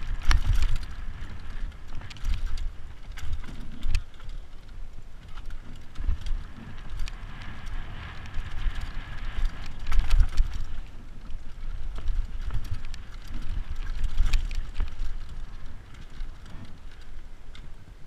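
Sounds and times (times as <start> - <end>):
bike clattering over bumps: 0.0 - 17.8
wind buffeting microphone: 0.0 - 18.0.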